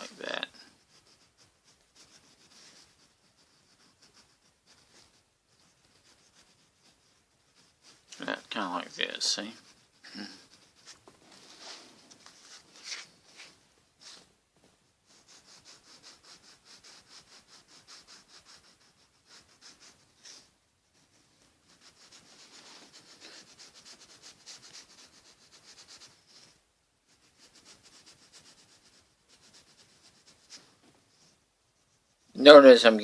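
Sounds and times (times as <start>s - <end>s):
colouring tool shading on paper: 0.0s - 14.3s, 15.0s - 32.8s.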